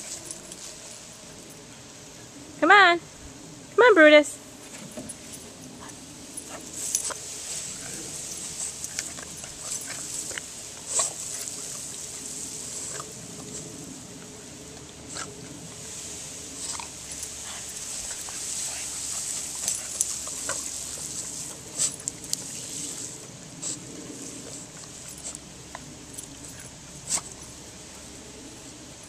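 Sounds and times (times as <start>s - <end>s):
sprinkler water spraying hiss: 0.0s - 2.4s, 3.7s - 29.0s.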